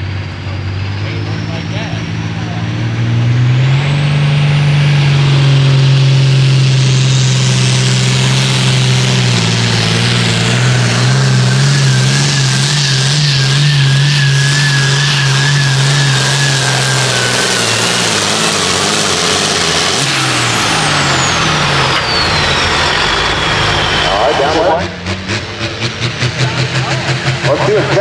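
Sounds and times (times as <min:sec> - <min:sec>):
tractor diesel engine running loud: 0:00.0 - 0:28.0.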